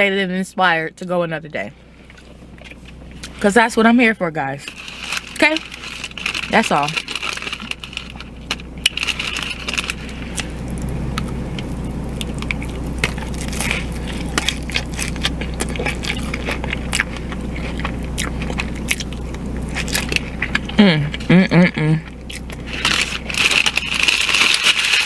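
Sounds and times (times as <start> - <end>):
low hum: 0.0 - 25.0
chewing crunchy taco: 4.6 - 25.0.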